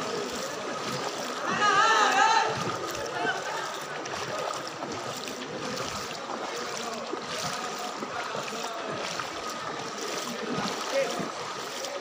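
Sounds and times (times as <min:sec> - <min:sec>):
faint voices: 0:00.0 - 0:12.0
floodwater rushing: 0:00.0 - 0:12.0.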